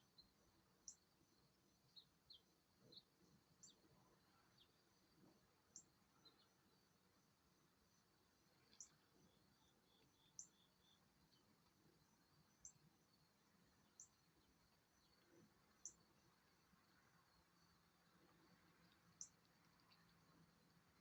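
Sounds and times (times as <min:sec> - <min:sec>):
faint high insect-like trilling: 0:00.0 - 0:21.0.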